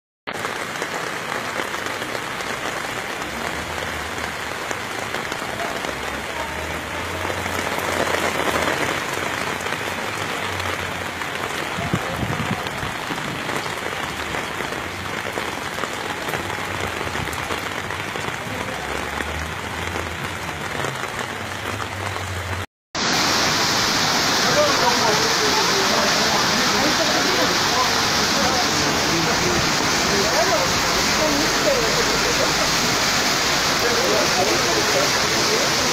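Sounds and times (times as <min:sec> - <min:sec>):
heavy rain pouring: 0:00.3 - 0:35.9.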